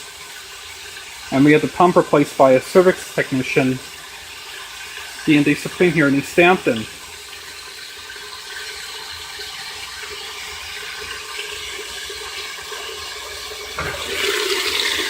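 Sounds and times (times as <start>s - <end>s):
water filling washing machine: 0.0s - 15.0s.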